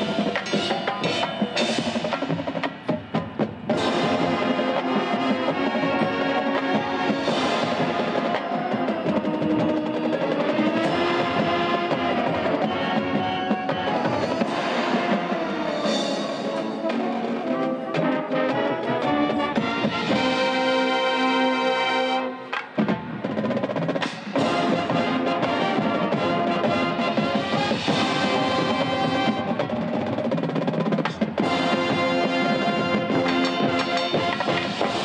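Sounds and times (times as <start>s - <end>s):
brass and saxophones chords: 0.0s - 23.0s, 24.3s - 30.1s, 31.4s - 35.0s
drums and percussion: 0.0s - 35.0s.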